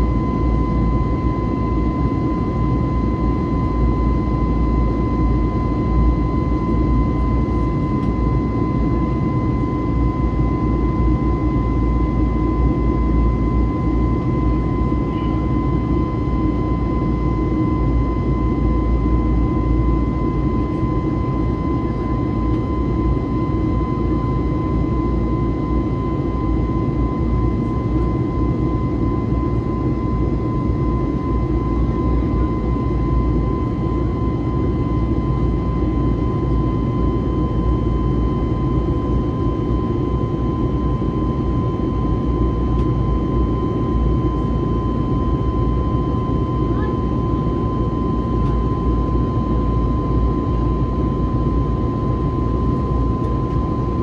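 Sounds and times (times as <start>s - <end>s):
jet engine deep rumble: 0.0s - 54.0s
jet engine high whine: 0.0s - 54.0s.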